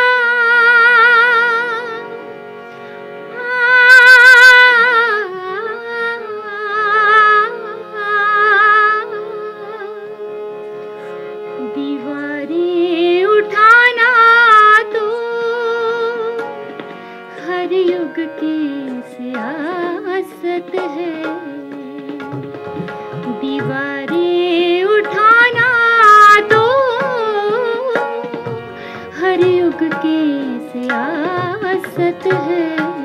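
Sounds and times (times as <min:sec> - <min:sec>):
woman singing: 0:00.0 - 0:02.1, 0:03.4 - 0:10.2, 0:11.6 - 0:16.5, 0:17.3 - 0:22.4, 0:23.1 - 0:33.0
harmonium chords: 0:00.0 - 0:33.0.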